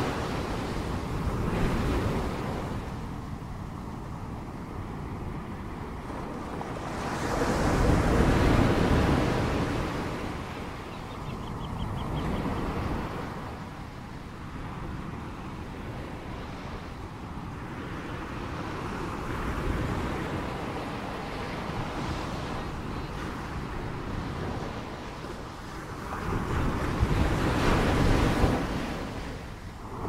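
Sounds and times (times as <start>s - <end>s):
ocean waves breaking on shore: 0.0s - 30.0s.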